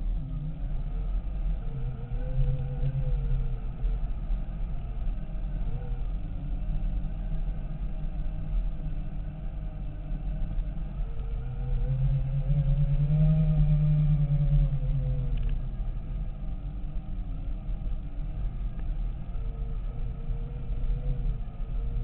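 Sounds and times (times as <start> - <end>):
electric drive whine: 0.0 - 22.0
low rumble on gravel: 0.0 - 22.0.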